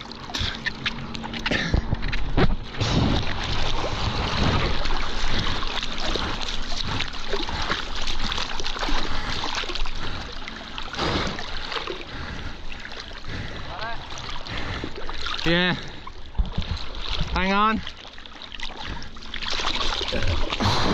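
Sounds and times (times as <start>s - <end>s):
water splashing and sloshing: 0.0s - 20.9s.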